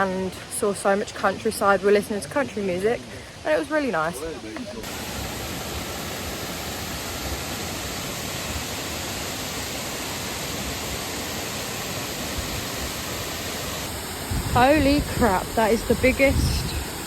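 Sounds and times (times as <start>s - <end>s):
waterfall rushing into pool: 0.1s - 17.0s.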